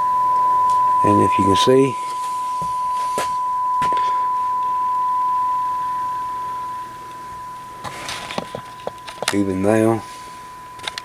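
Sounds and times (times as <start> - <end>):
high-pitched test tone from speaker: 0.0 - 11.0.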